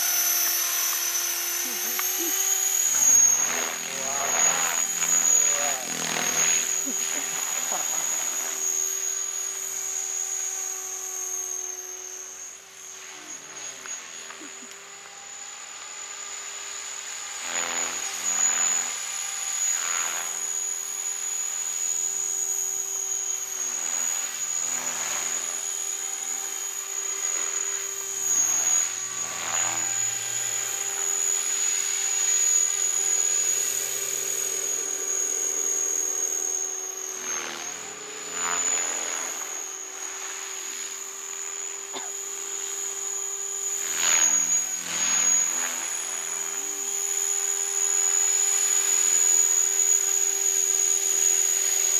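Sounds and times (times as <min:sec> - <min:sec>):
remote-control helicopter flying: 0:00.0 - 0:51.9.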